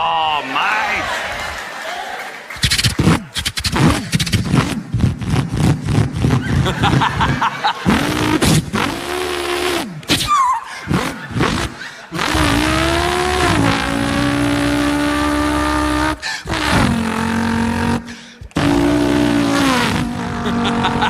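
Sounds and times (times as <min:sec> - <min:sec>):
man imitating car engine: 0:03.1 - 0:21.0.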